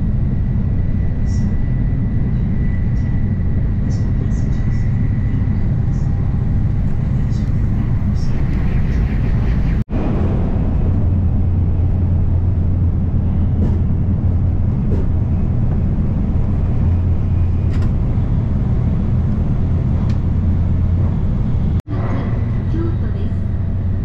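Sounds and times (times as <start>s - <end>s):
train rumbling and hissing: 0.0s - 24.0s.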